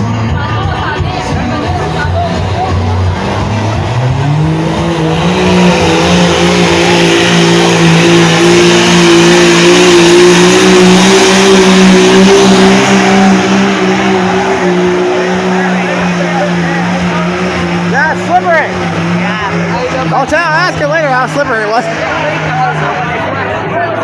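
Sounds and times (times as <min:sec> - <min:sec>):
truck engine at full throttle: 0:00.0 - 0:24.0.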